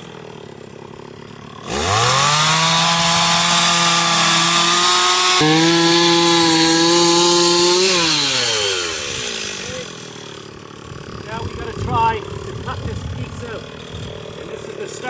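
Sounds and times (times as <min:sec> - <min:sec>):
chainsaw cutting wooden log: 0:00.0 - 0:15.0.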